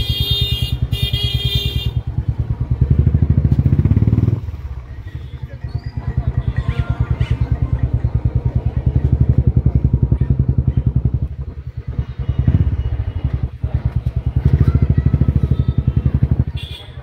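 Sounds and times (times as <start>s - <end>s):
small engine chugging: 2.1s - 16.9s.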